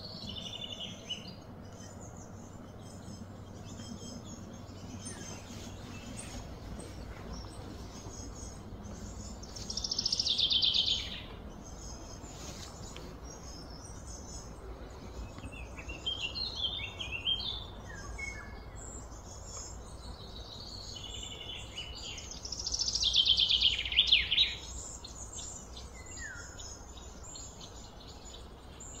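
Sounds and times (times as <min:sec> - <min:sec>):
birds chirping and calling: 0:00.0 - 0:29.0
low background rumble: 0:00.0 - 0:29.0.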